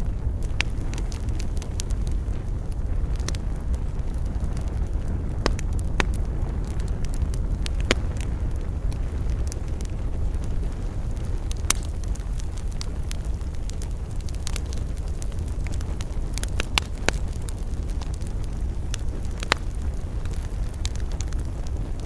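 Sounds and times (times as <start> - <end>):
burning wood crackling and popping: 0.0 - 22.0
low rumble of flames: 0.0 - 22.0.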